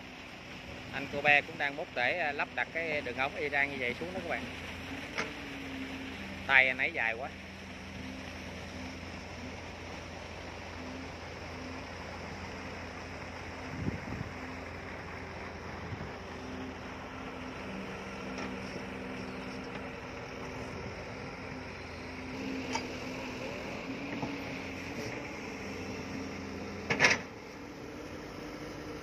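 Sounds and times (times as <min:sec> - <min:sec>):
excavator diesel engine: 0:00.0 - 0:29.0
hydraulic hum: 0:00.1 - 0:29.0.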